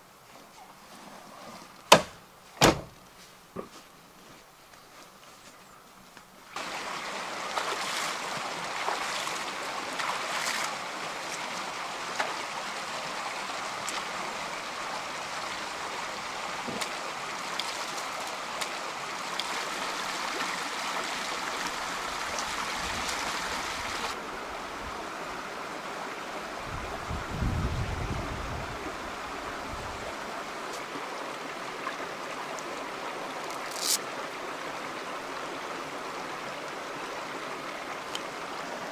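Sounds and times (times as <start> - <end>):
water rushing over rocks: 6.6 - 38.9.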